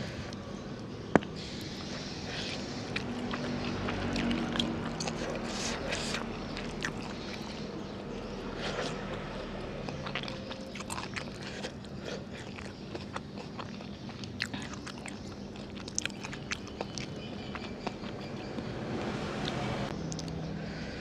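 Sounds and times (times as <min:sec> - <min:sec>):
chewing and biting food: 0:01.2 - 0:18.7.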